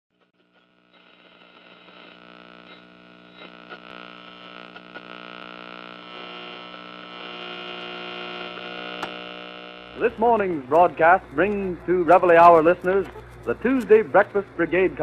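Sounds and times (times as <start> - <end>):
crackles and clicks: 0.1 - 14.0
electrical mains hum: 0.2 - 15.0.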